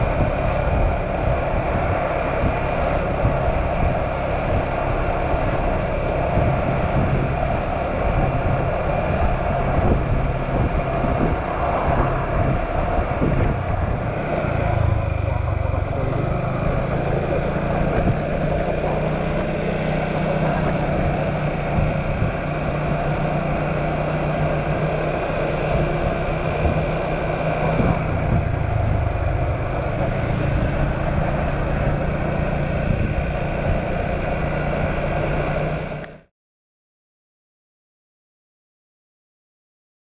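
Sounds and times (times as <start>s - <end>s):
small motorcycle engine running: 0.0s - 36.2s
wind and road noise: 0.0s - 36.3s.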